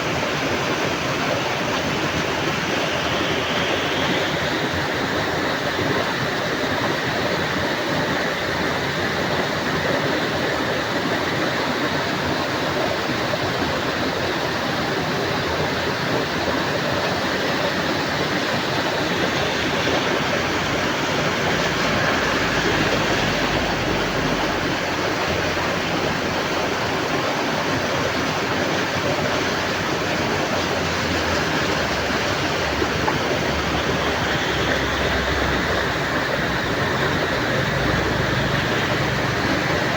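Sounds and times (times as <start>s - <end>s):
heavy rain: 0.0s - 12.6s, 13.8s - 39.9s.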